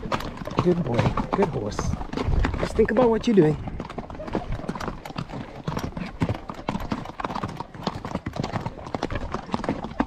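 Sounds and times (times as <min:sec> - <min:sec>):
horse hooves clopping on rocks: 0:00.0 - 0:10.0.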